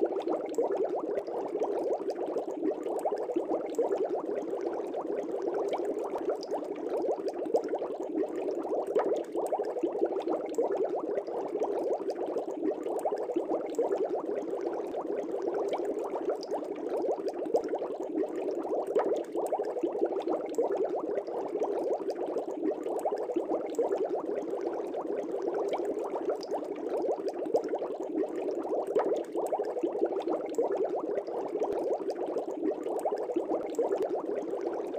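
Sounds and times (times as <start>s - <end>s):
aquarium air bubbles burbling: 0.0s - 34.9s.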